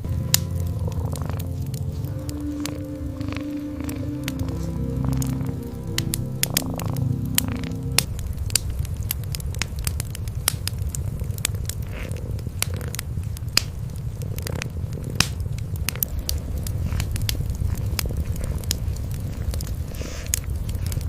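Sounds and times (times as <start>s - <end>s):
cats purring: 0.0s - 8.1s, 10.6s - 21.0s
wood fire crackling and popping: 0.0s - 21.0s.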